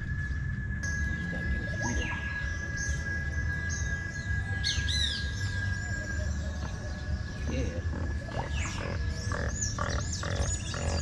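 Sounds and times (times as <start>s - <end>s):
birds chirping: 0.0s - 11.0s
steady high whine: 0.0s - 11.0s.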